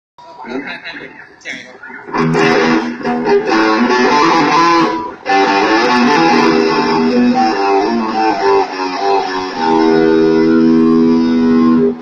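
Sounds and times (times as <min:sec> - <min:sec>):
guitar picked notes and strummed chords: 0:00.3 - 0:12.0.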